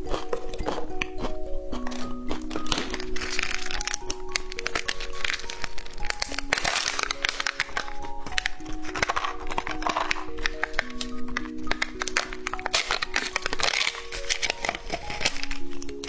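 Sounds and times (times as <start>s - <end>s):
background music: 0.0s - 16.0s
snack packet cracks and crinkling: 0.0s - 16.0s.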